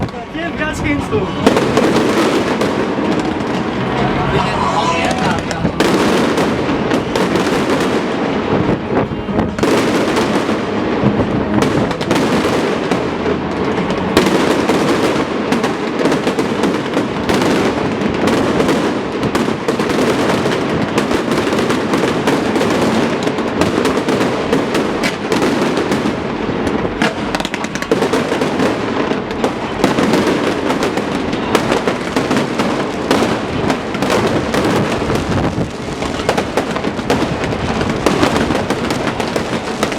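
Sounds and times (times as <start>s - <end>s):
fireworks bursts and crackles: 0.0s - 39.9s.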